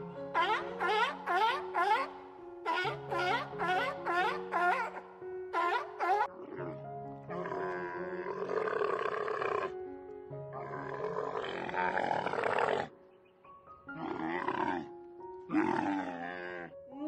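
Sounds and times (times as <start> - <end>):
camels calling: 0.0 - 9.8, 10.6 - 13.0, 13.9 - 16.8
background music with held notes: 0.0 - 17.0.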